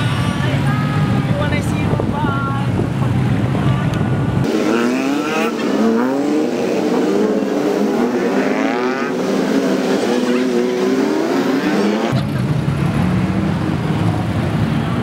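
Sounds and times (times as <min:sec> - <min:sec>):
auto-rickshaw engines revving: 0:00.0 - 0:15.0.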